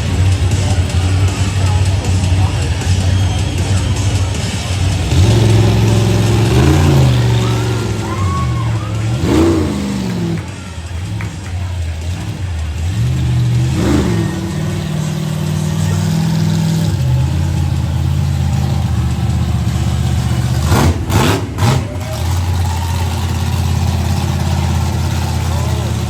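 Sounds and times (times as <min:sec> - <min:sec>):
monster truck engine revving: 0:00.0 - 0:26.0
sharp throttle blips: 0:00.0 - 0:26.0.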